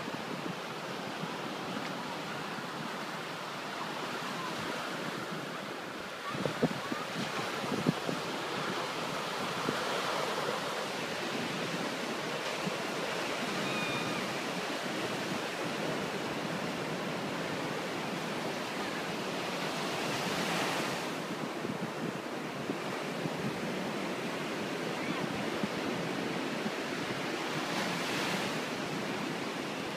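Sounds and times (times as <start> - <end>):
ocean waves breaking on beach: 0.0 - 29.9.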